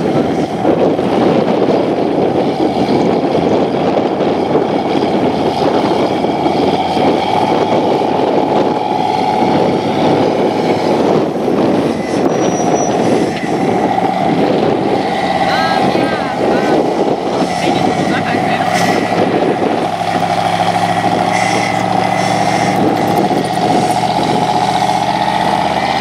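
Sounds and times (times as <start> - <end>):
buggy engine running hard: 0.0 - 26.0.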